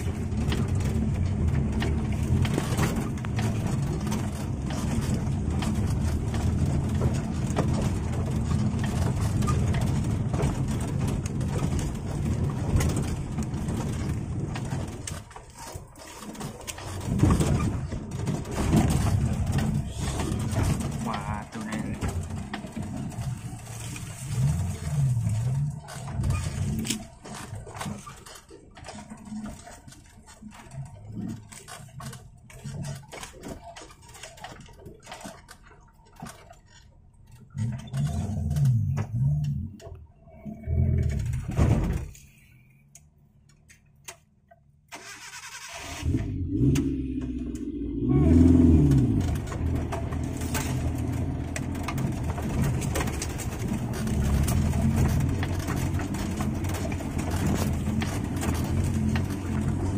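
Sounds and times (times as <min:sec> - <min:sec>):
off-road engine revving: 0:00.0 - 0:29.8, 0:37.5 - 0:42.2, 0:45.0 - 0:59.9.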